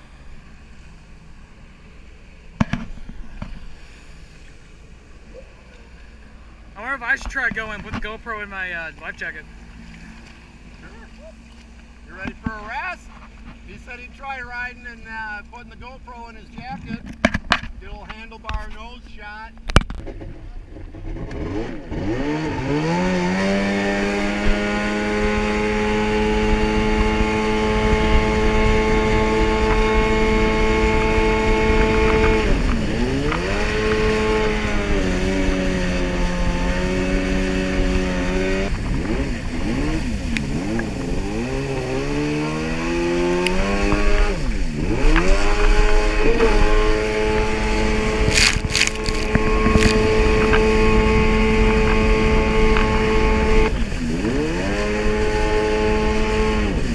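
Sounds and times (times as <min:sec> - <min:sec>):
jet ski engine running: 0:00.0 - 0:56.9.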